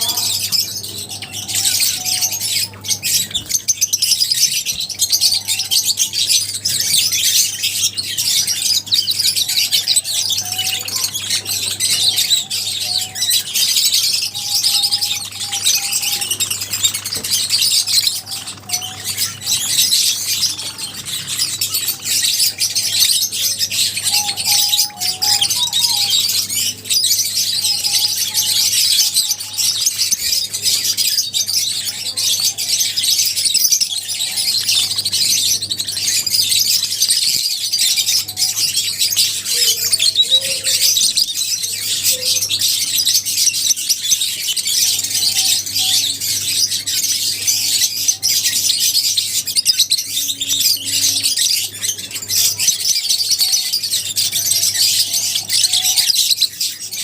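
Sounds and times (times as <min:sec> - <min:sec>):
birds chattering and chirping: 0:00.0 - 0:57.0.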